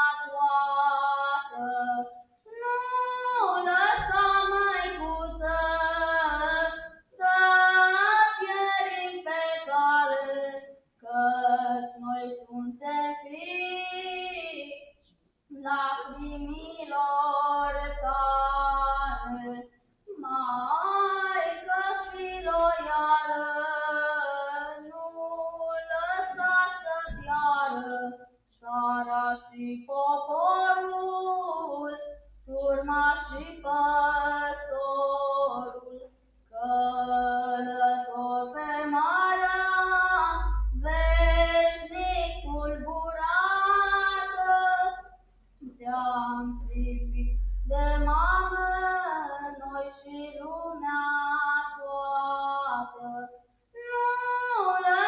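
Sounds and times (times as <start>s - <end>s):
young woman singing: 0.0s - 55.0s.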